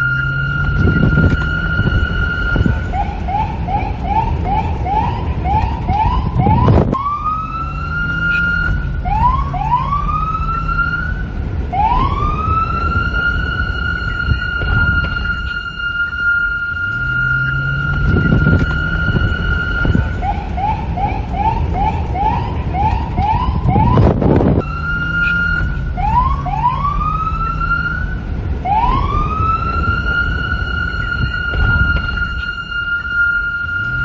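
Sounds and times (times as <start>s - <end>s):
low rumble: 0.0s - 34.0s
police siren: 0.0s - 34.0s
wind noise: 0.0s - 34.0s.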